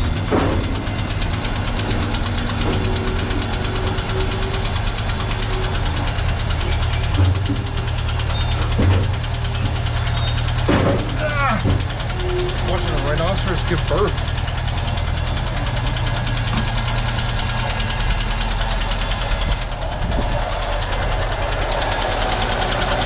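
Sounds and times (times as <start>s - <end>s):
car engine idling with ticking: 0.0s - 23.0s.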